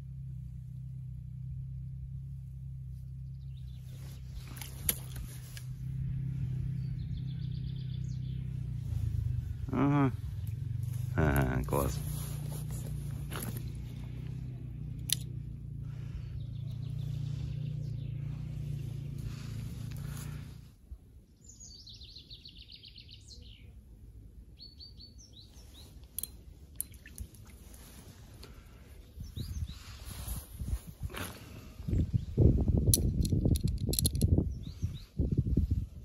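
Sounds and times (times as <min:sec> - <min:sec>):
steady low rumble: 0:00.0 - 0:22.0, 0:23.6 - 0:36.0.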